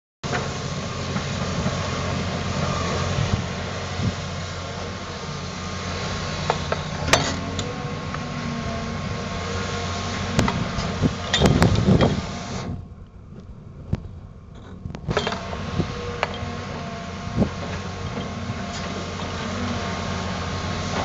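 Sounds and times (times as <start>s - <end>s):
excavator diesel engine running: 0.2s - 21.0s.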